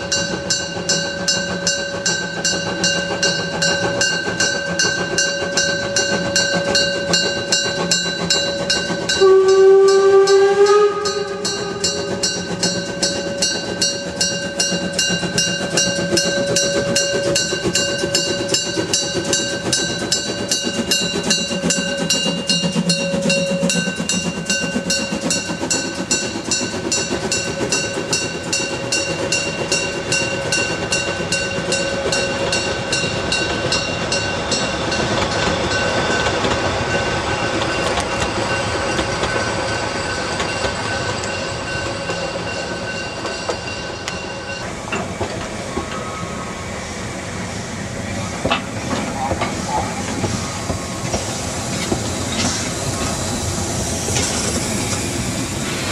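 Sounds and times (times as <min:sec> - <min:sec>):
wagons rolling with rail clatter: 0:00.0 - 0:46.6, 0:48.2 - 0:53.4
steam locomotive exhaust beating: 0:00.0 - 0:55.9.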